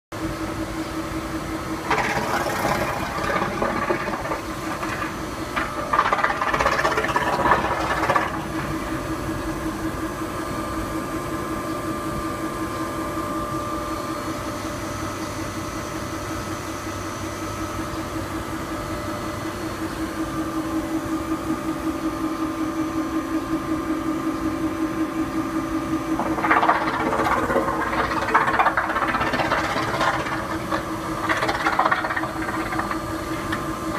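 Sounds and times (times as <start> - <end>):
machinery buzzing hum: 0.2 - 33.9.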